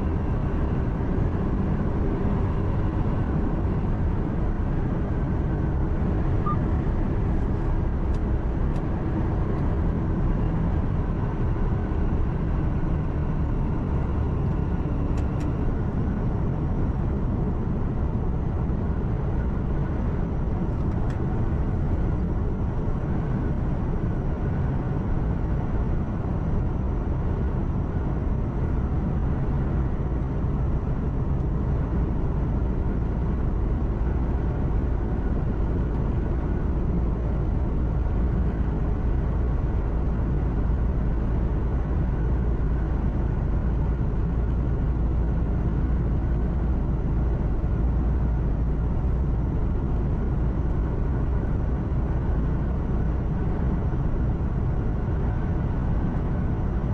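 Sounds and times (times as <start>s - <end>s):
diesel engine drone: 0.0s - 56.9s
road and tyre rumble: 0.0s - 56.9s.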